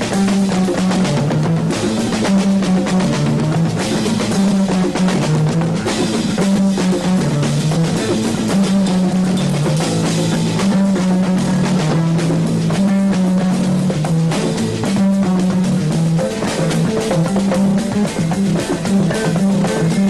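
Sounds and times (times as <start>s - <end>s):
bass guitar riff: 0.0s - 20.0s
drum kit beat: 0.0s - 20.0s
electric guitar: 0.0s - 20.0s.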